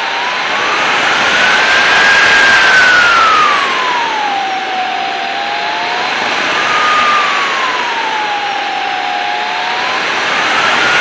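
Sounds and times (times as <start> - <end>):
model jet engine whining: 0.0 - 11.0.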